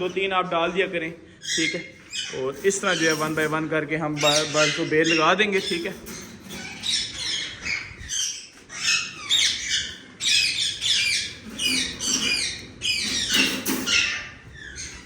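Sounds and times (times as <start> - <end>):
parrots squawking and chattering: 0.0 - 15.0.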